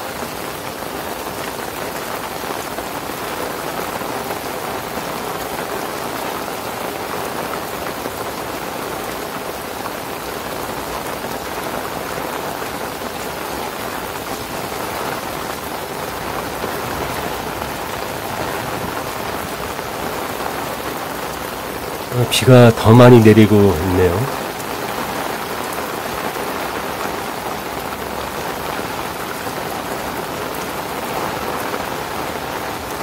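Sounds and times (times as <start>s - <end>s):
heavy rain on wet paving: 0.0s - 33.0s.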